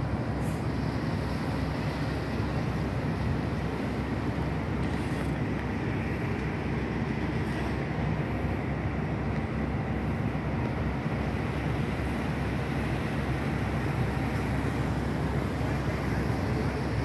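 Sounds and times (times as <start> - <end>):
faint constant hum: 0.0 - 17.0
ship low rumble: 0.0 - 17.0.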